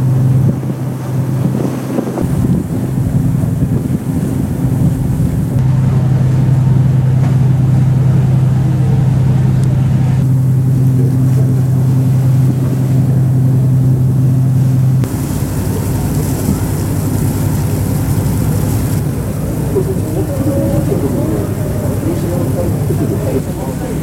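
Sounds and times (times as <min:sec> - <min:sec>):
ferry engine humming: 0:00.0 - 0:24.0
wind and water rushing: 0:00.0 - 0:24.0.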